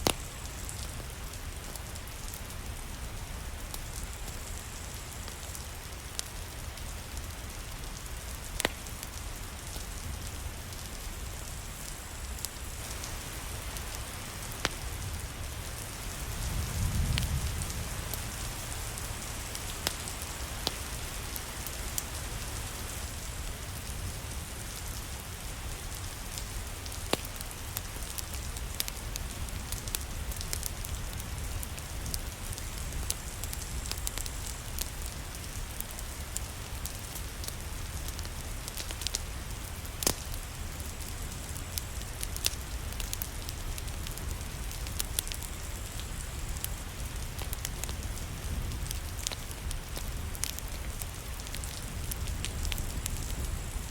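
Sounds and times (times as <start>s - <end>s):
steady rain falling: 0.0s - 53.9s
wood fire crackling and popping: 0.0s - 53.9s.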